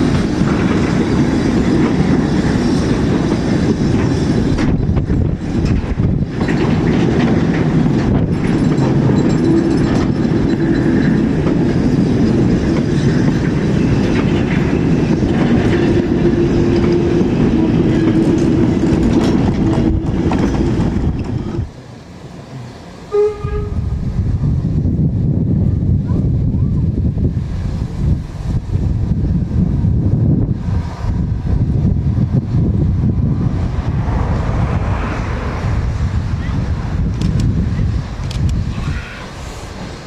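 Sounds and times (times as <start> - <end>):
steam train wheels clattering: 0.0 - 24.9, 27.0 - 40.0.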